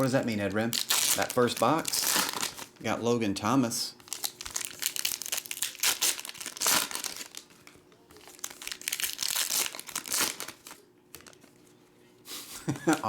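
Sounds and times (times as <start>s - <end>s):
foil wrappers crinkling: 0.0s - 3.0s, 4.0s - 11.7s.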